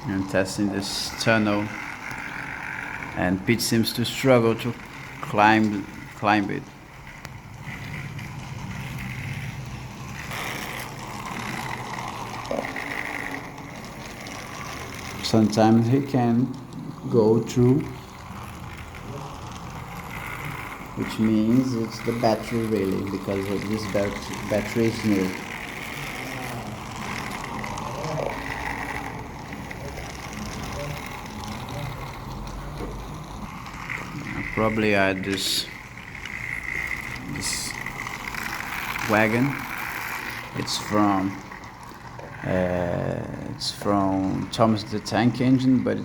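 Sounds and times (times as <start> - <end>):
toy train motor whirring: 0.0 - 46.0.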